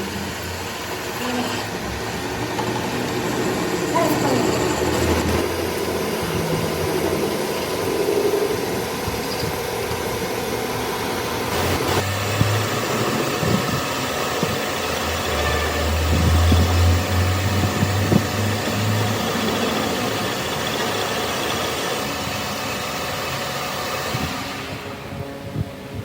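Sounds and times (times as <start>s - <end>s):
falling whine: 0.0s - 26.0s
mechanical running noise: 0.0s - 26.0s.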